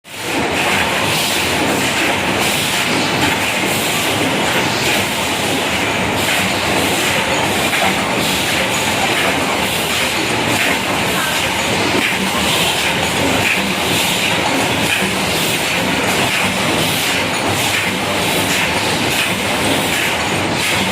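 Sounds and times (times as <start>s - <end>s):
paper plate machine running: 0.1s - 20.9s.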